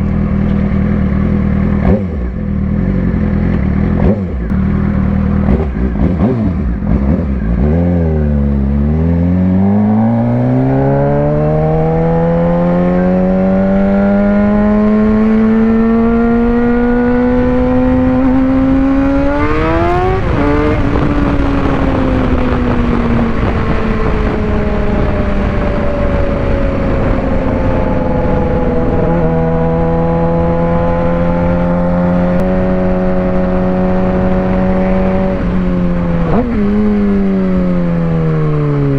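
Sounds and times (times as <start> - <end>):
motorcycle engine revving and shifting: 0.0 - 38.9
wind and road noise: 0.0 - 38.9.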